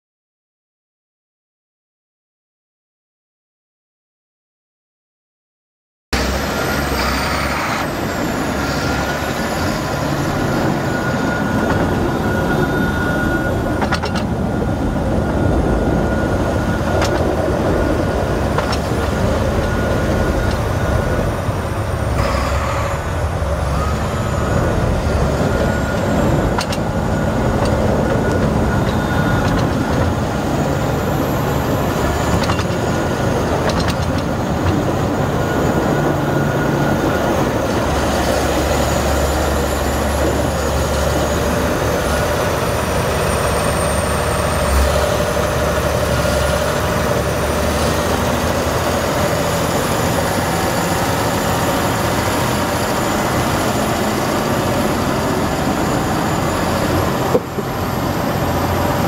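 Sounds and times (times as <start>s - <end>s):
tractor diesel engine running: 6.2s - 59.0s.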